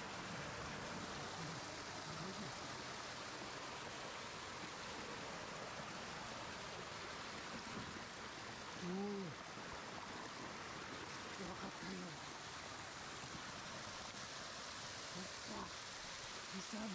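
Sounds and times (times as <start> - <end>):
water rushing over rocks: 0.0 - 16.9.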